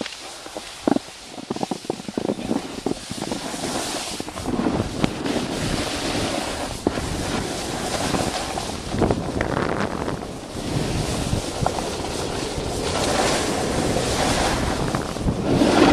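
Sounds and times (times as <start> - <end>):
skis hissing over snow: 0.0 - 15.9
wind buffeting microphone: 0.0 - 15.9.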